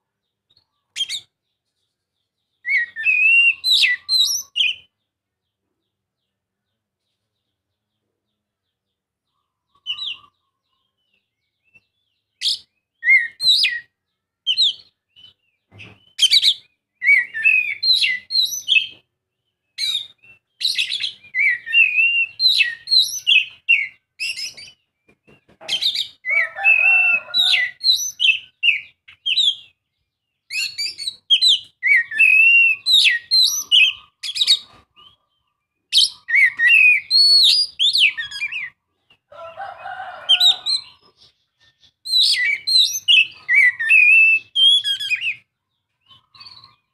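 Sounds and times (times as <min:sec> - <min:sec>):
songbird singing whistles and chirps: 0:00.1 - 0:07.9, 0:08.6 - 0:46.9.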